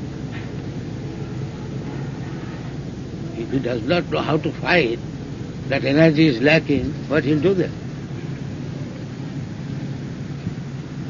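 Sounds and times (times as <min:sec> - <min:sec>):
low hum: 0:00.0 - 0:11.0
recording hiss: 0:00.0 - 0:11.0.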